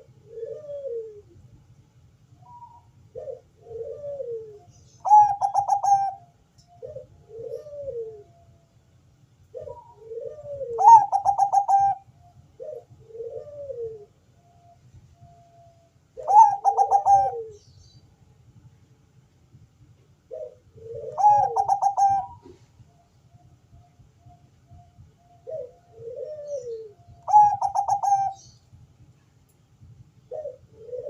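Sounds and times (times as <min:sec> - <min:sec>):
dove cooing: 0:00.0 - 0:01.4, 0:02.4 - 0:08.6, 0:09.5 - 0:18.0, 0:20.2 - 0:29.2, 0:30.2 - 0:31.0.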